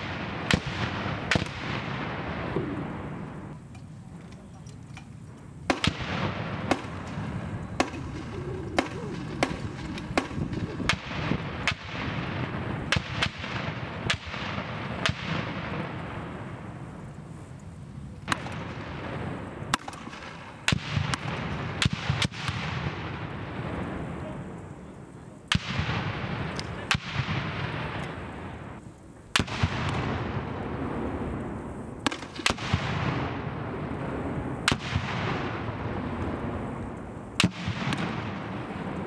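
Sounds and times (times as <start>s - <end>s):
grenades bursting with echoes: 0.0s - 3.7s, 5.6s - 17.5s, 18.2s - 24.4s, 25.5s - 39.0s.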